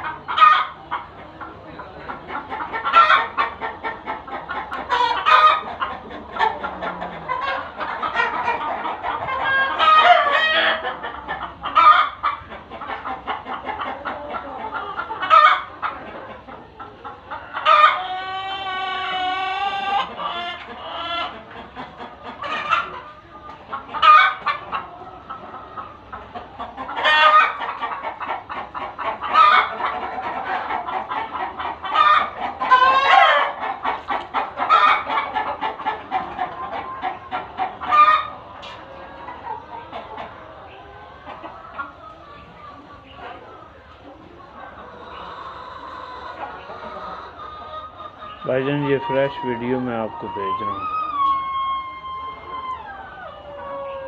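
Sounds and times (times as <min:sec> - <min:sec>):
hens clucking and cackling: 0:00.0 - 0:54.0
hens squawking: 0:00.0 - 0:54.0.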